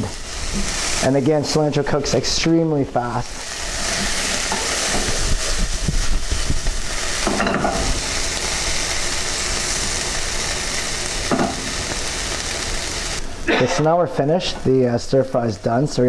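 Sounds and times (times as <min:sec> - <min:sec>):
stir fry sizzling in a pan: 0:00.0 - 0:15.8.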